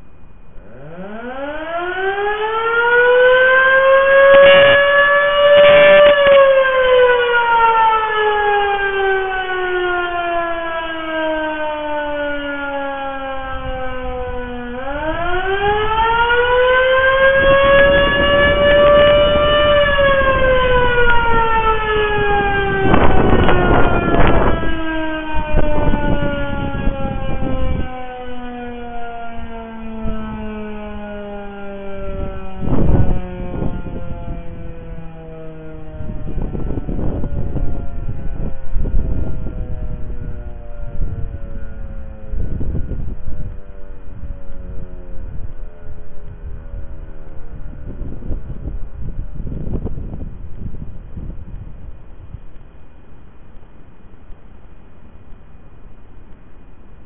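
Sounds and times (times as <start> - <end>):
warning siren winding up and down: 0.5 - 51.7.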